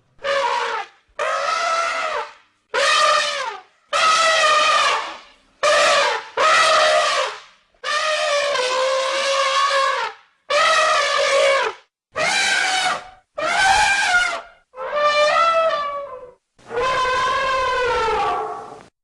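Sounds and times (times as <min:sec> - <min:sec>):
elephant trumpeting: 0:00.2 - 0:18.9.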